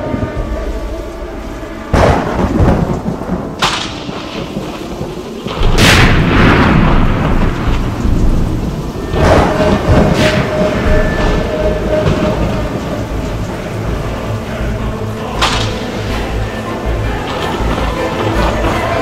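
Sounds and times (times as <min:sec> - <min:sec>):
heavy rain: 0:00.0 - 0:19.0
thunder cracking and rumbling: 0:00.0 - 0:19.0.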